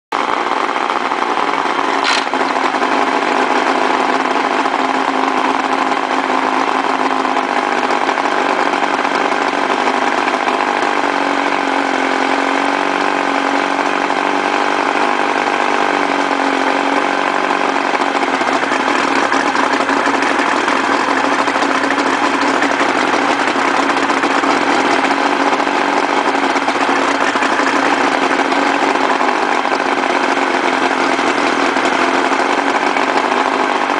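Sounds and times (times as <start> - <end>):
outboard motor running: 0.1 - 33.9.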